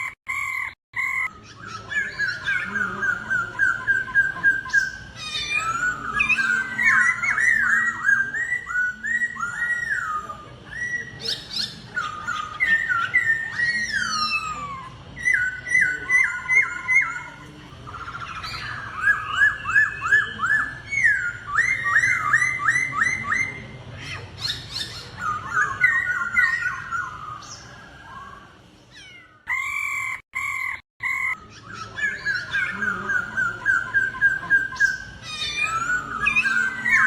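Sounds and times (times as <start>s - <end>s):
bird whistled song: 0.0s - 28.5s, 29.5s - 37.0s
high bird chirps: 0.0s - 37.0s.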